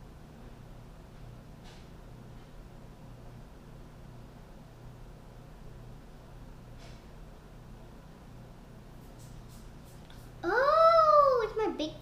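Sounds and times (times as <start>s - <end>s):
faint low hum with hiss: 0.0s - 12.0s.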